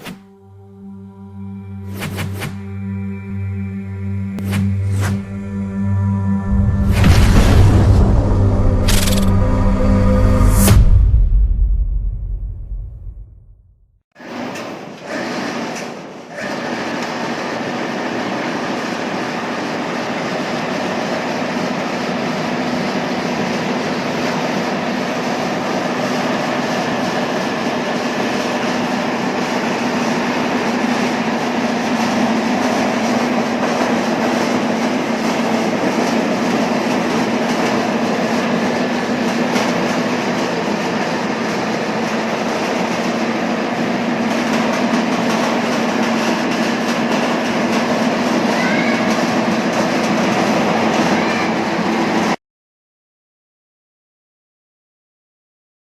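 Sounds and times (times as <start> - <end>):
threshing machine running: 0.0 - 13.5, 14.2 - 52.4.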